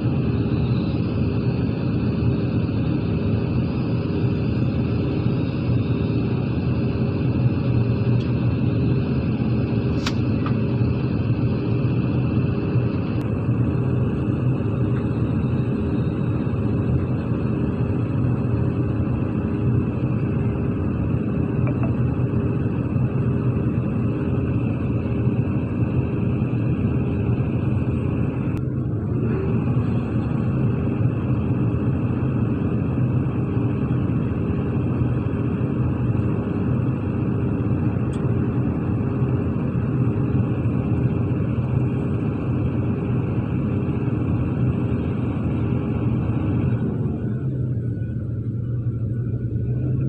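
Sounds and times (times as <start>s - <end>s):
heavy diesel engines droning: 0.0s - 50.0s.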